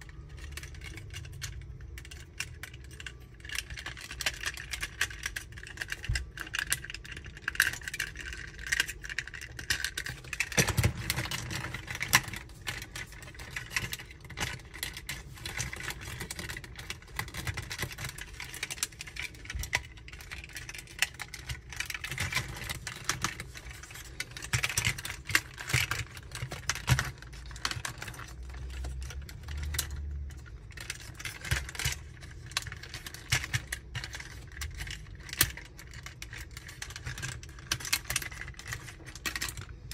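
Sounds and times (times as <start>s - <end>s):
plastic toy parts clicking: 0.0s - 39.9s.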